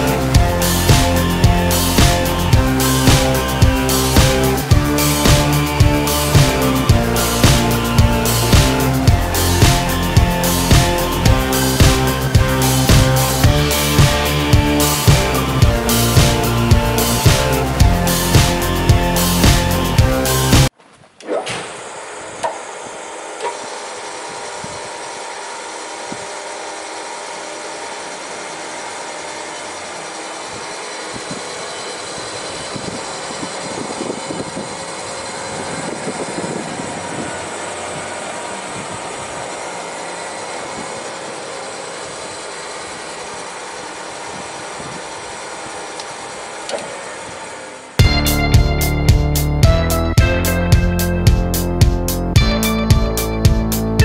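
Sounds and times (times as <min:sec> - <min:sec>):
machine saw running: 0:00.0 - 0:54.0.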